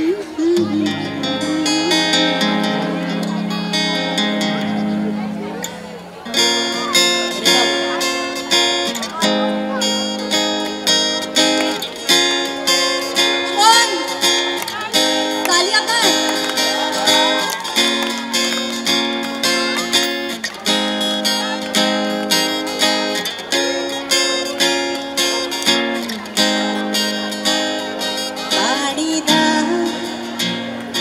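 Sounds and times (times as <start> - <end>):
acoustic guitar strumming: 0.0 - 31.0.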